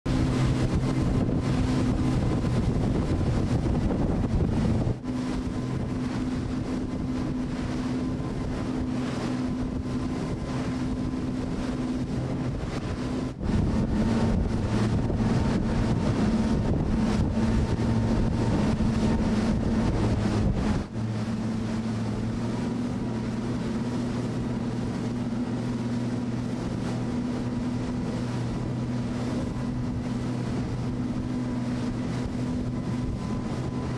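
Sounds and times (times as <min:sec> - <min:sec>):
motorboat engine running: 0:00.0 - 0:33.9
water rushing past: 0:00.1 - 0:33.9
wind buffeting microphone: 0:00.1 - 0:33.9.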